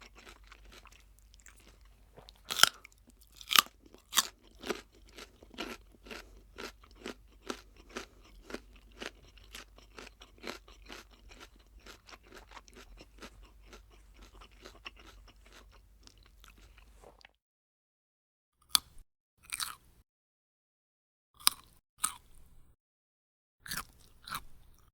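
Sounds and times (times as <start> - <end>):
crunchy food being chewed: 0.0 - 17.4, 18.7 - 19.8, 21.4 - 22.5, 23.7 - 24.9.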